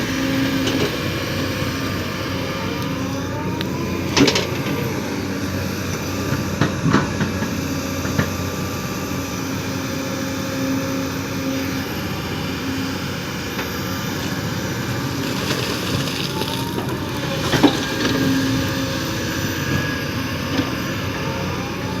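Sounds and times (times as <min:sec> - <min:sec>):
excavator engine and hydraulics: 0:00.0 - 0:22.0.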